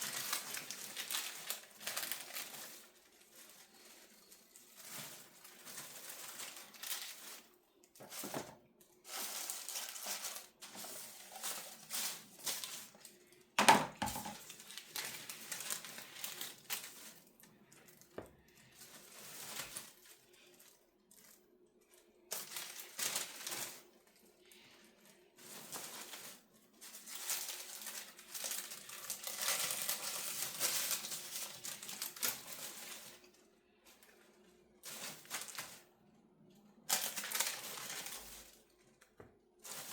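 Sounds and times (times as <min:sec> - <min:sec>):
baking paper crinkling and tearing: 0:00.0 - 0:39.9.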